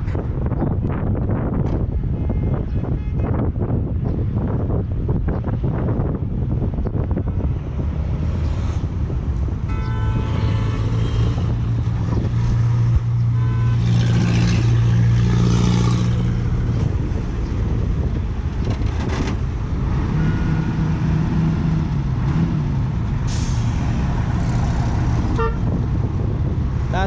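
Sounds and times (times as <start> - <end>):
diesel truck engines running hard: 3.4 - 27.0.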